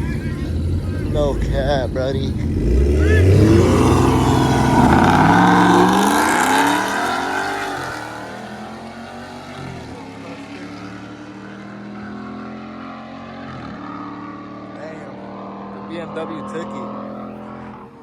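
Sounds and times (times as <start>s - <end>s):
car engines running steadily: 0.0s - 18.0s
race cars accelerating hard: 0.0s - 18.0s.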